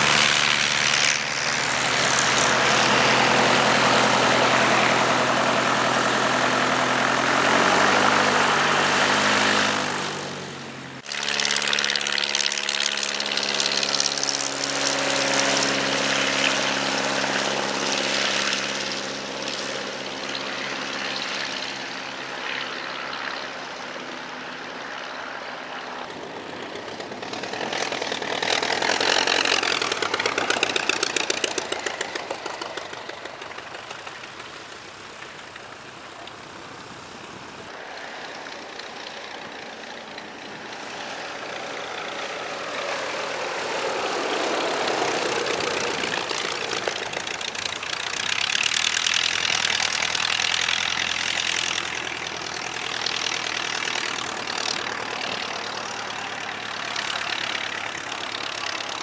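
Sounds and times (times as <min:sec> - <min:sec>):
biplane taking off: 0:00.0 - 0:59.0
light aircraft engine running: 0:00.0 - 0:59.0
propeller plane flying by: 0:00.0 - 0:59.0.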